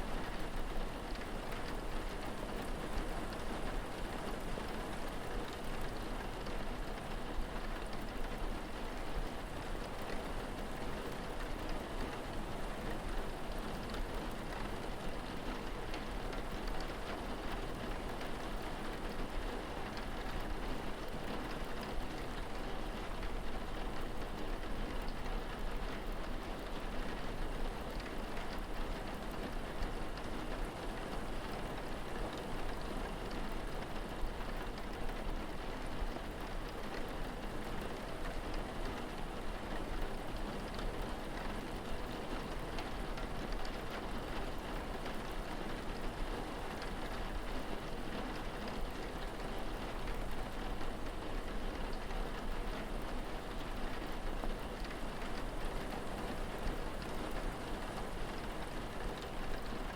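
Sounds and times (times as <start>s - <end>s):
steady rain pattering: 0.0s - 59.9s.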